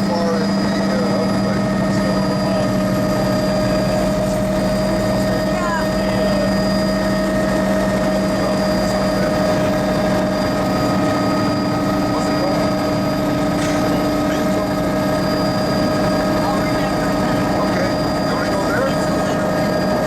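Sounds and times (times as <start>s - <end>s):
helicopter engine and rotors droning: 0.0s - 20.0s
high-pitched transmission whine: 0.0s - 20.0s.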